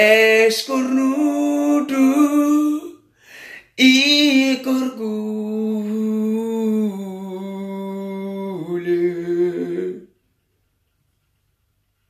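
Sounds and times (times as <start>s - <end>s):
man singing unaccompanied: 0.0s - 10.1s.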